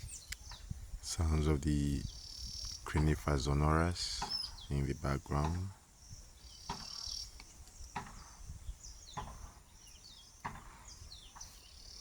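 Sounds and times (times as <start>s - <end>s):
birds calling: 0.0s - 12.0s
insects buzzing: 0.0s - 12.0s.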